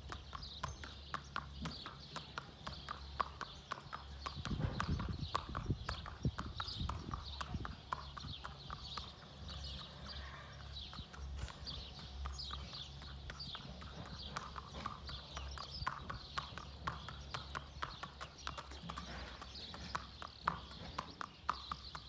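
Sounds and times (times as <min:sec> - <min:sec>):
hooves clip-clopping on asphalt: 0:00.0 - 0:22.0.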